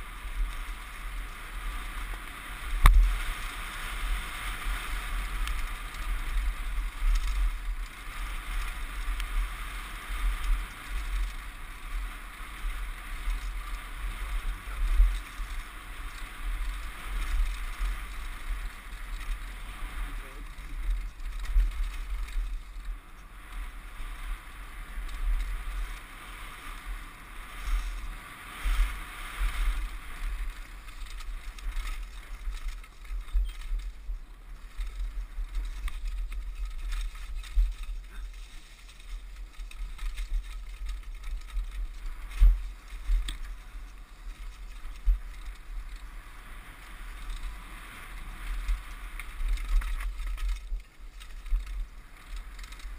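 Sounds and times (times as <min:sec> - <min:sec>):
bike rattling over bumps: 0:00.0 - 0:52.9
tyres running over dirt: 0:00.0 - 0:52.9.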